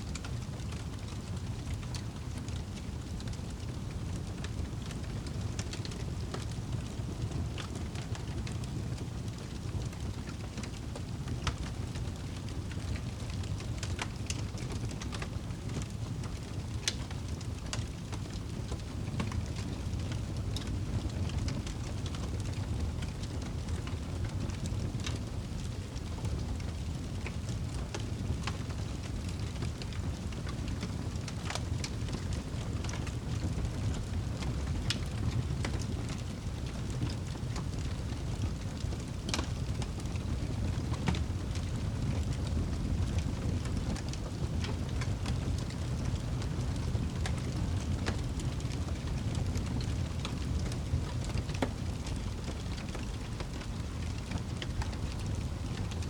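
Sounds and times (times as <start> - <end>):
fire crackles and pops: 0.1 - 56.0
fire roaring: 0.1 - 56.0.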